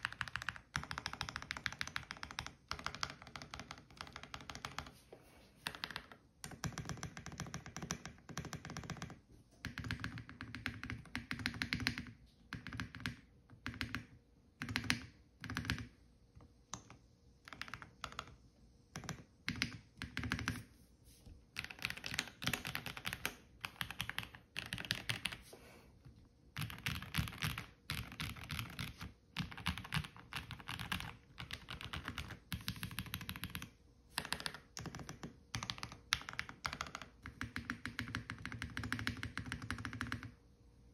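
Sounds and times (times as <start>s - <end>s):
mechanical keyboard typing: 0.0s - 4.9s, 5.6s - 16.0s, 16.7s - 20.7s, 21.5s - 25.4s, 26.5s - 40.4s.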